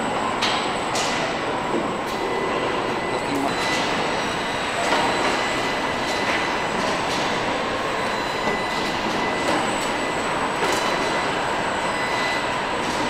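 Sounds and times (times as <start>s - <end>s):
high machine whine: 0.0s - 13.0s.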